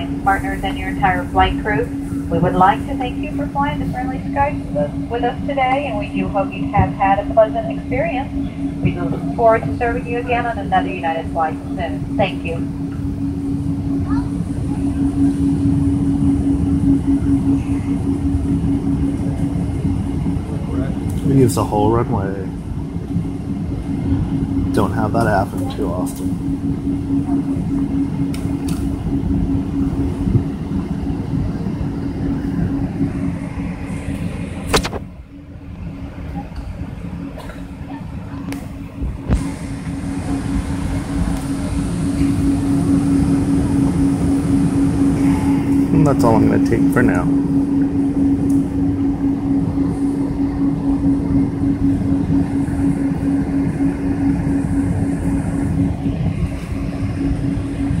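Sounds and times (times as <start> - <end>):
aircraft engines rumbling: 0.0 - 58.0
constant low hum: 0.0 - 58.0.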